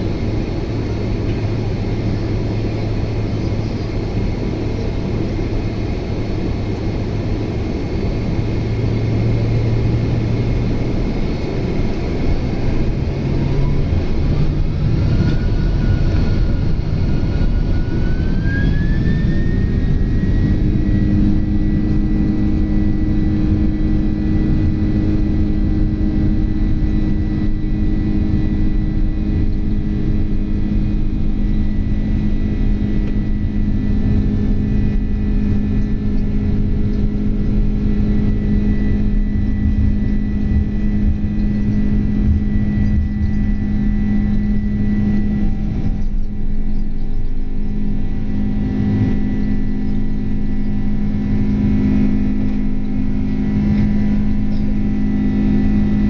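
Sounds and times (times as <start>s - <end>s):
jet engines spooling up: 0.0s - 56.0s
low rumble: 0.0s - 56.0s.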